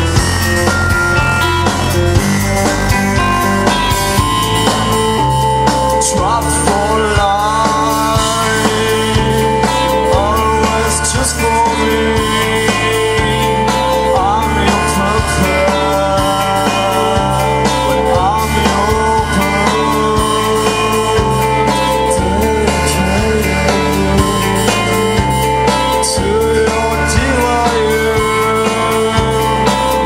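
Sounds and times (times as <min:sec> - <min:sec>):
band-style music: 0:00.0 - 0:30.0
stepping bass line: 0:00.0 - 0:30.0.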